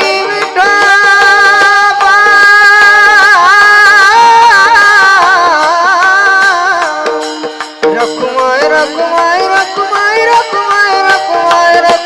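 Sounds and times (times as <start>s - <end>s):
person singing devotional song: 0.0s - 12.0s
steady held accompaniment: 0.0s - 12.0s.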